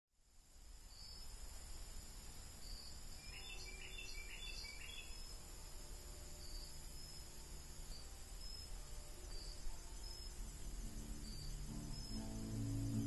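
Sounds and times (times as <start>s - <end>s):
insects trilling: 0.2s - 13.0s
bird singing: 0.8s - 1.4s, 2.3s - 13.0s.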